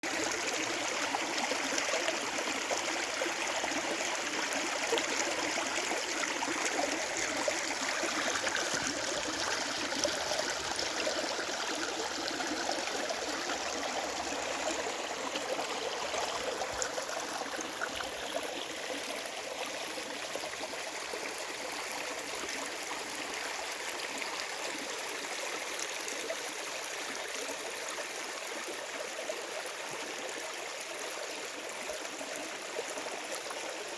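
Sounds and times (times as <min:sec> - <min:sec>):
stream flowing: 0:00.0 - 0:33.9.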